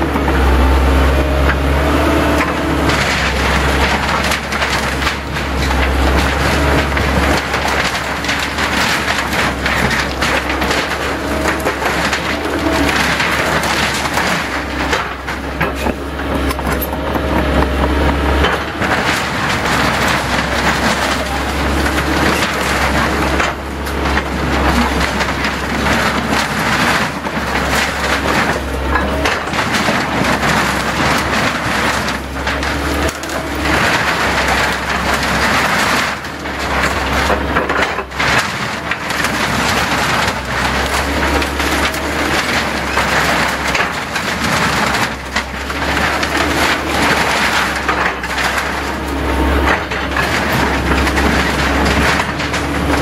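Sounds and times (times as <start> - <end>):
excavator diesel engine running: 0.0 - 53.0
metal and wood crumpling and cracking: 0.0 - 53.0.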